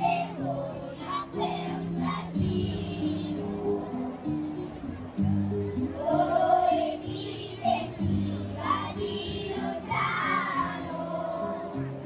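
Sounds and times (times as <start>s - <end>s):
children's choir singing: 0.0s - 4.2s, 5.9s - 12.0s
low guitar line: 0.0s - 12.0s.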